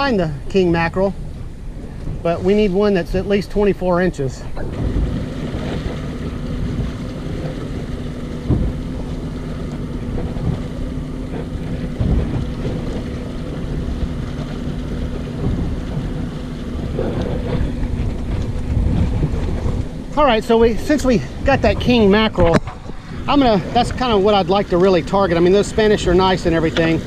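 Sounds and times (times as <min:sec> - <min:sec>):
boat engine humming: 0:00.0 - 0:27.0
wind buffeting microphone: 0:00.0 - 0:27.0.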